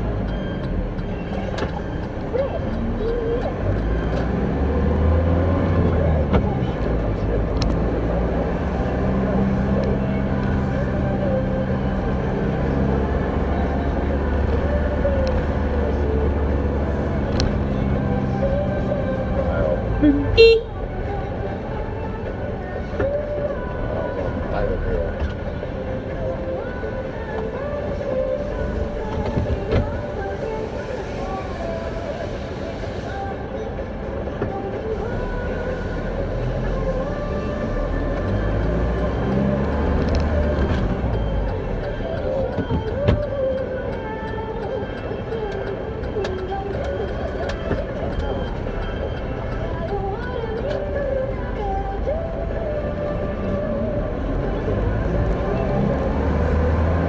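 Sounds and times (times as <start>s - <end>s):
road noise: 0.0s - 57.0s
truck engine low rumble: 0.0s - 57.0s.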